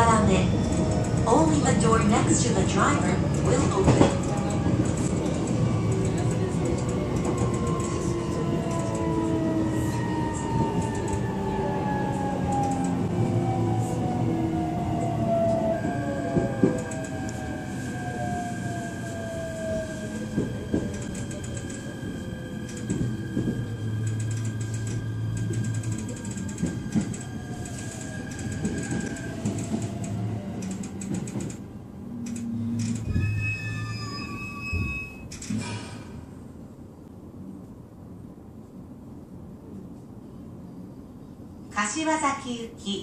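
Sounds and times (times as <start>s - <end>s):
train running gear rumble: 0.0s - 35.7s.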